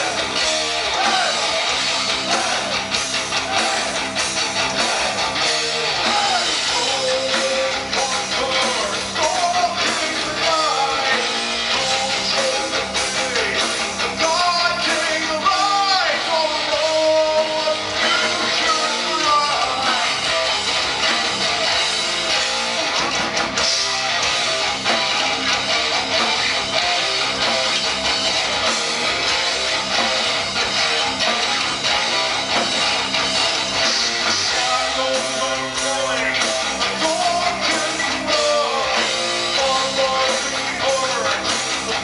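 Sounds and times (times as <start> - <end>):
strummed electric guitars: 0.0 - 42.0.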